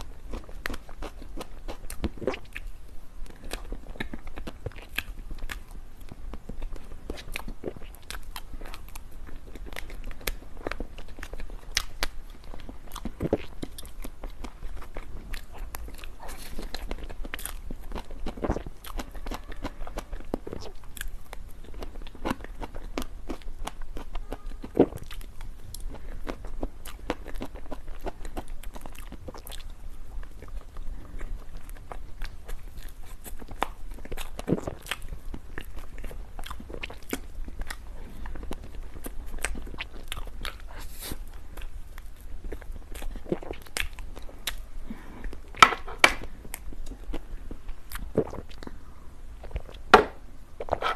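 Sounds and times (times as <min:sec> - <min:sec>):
biting and chewing: 0:00.0 - 0:48.8, 0:49.4 - 0:50.9.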